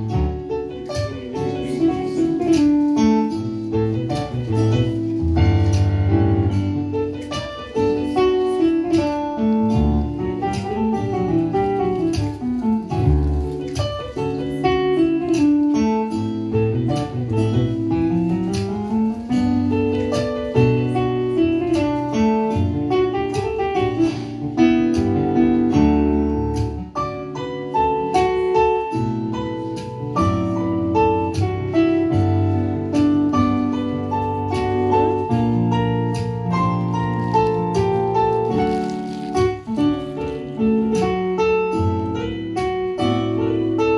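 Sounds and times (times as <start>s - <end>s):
jazz piano playing: 0.0s - 43.9s.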